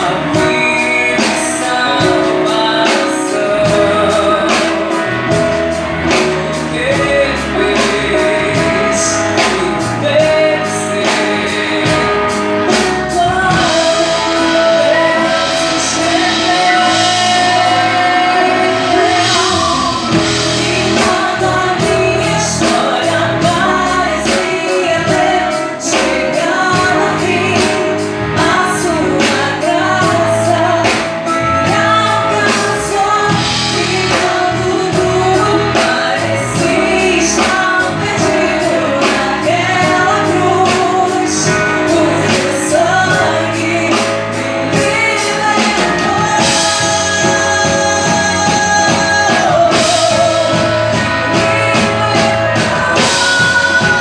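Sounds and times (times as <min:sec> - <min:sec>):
band accompaniment: 0:00.0 - 0:54.0
person singing: 0:00.0 - 0:54.0
steady drum beat: 0:00.0 - 0:54.0.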